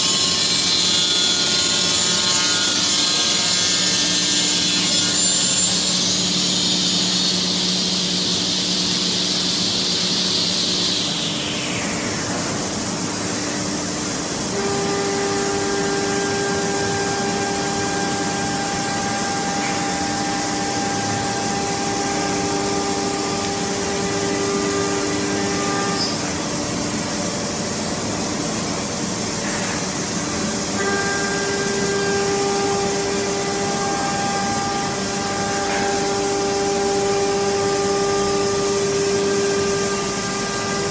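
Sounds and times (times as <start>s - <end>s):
wood router cutting: 0.0s - 27.1s, 29.4s - 40.9s
high whine: 0.0s - 40.9s.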